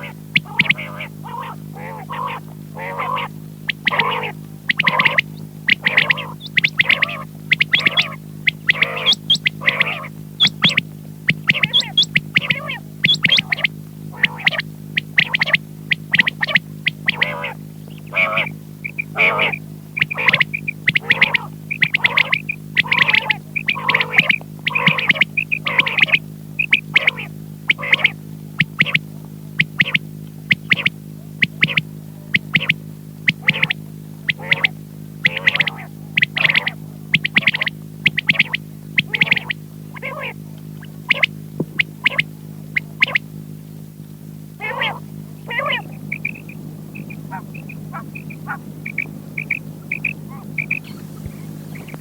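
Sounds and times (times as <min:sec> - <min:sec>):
quail calling: 0:00.0 - 0:43.3, 0:44.6 - 0:52.0
low hum: 0:00.0 - 0:52.0.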